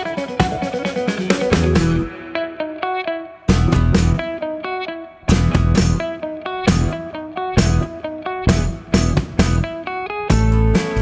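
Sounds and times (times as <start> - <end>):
guitar tune with drums: 0.0 - 11.0.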